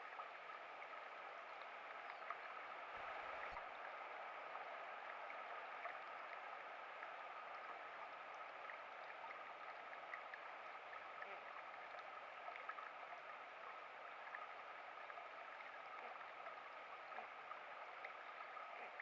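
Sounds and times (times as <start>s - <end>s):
small stream running: 0.0s - 19.0s.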